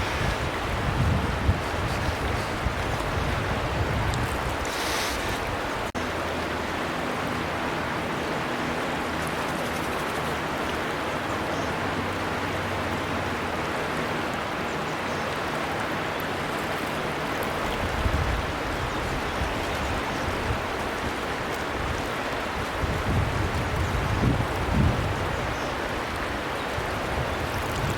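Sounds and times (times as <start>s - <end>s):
river water flowing: 0.0s - 27.9s.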